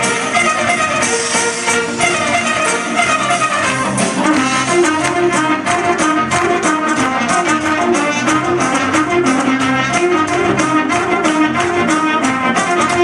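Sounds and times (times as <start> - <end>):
upbeat brass party music: 0.0 - 13.0.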